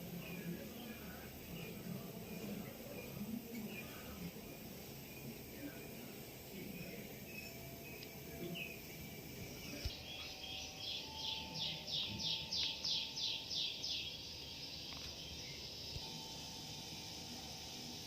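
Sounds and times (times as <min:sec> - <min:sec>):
bird singing descending notes: 0:00.0 - 0:18.0
faint background hum: 0:00.0 - 0:18.0.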